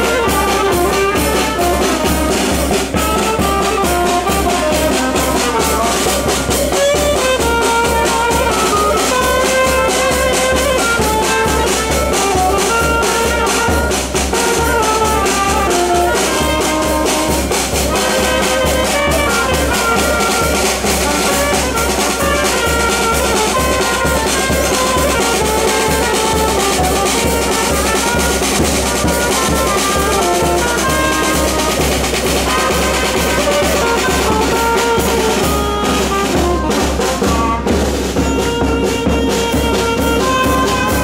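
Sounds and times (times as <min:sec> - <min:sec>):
bass drum beat: 0:00.0 - 0:41.0
brass instruments melody: 0:00.0 - 0:41.0.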